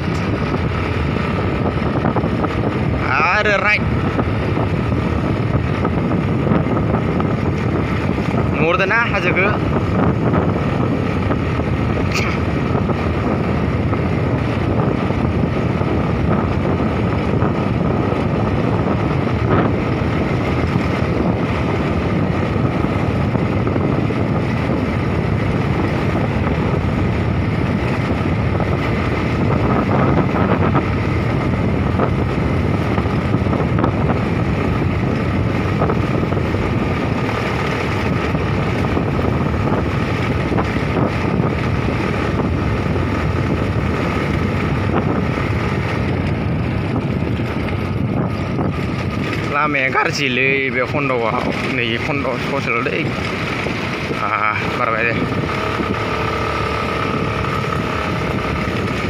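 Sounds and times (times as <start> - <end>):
wind rush on microphone: 0.0 - 59.0.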